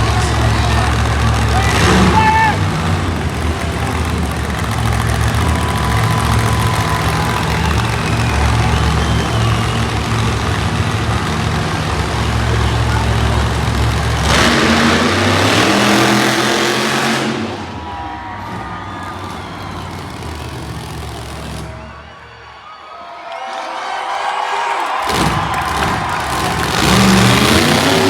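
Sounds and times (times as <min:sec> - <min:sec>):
truck engine rumbling and revving: 0:00.0 - 0:22.4, 0:24.9 - 0:28.0.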